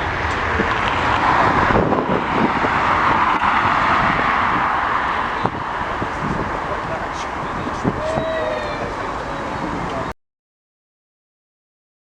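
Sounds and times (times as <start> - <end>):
jet engines rushing: 0.0 - 10.1.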